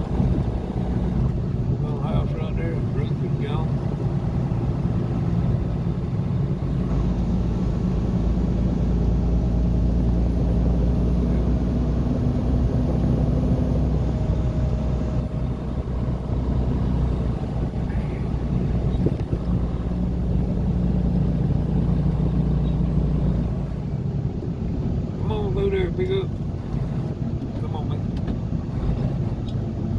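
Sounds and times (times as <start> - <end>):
car engine and road rumble: 0.0 - 29.9.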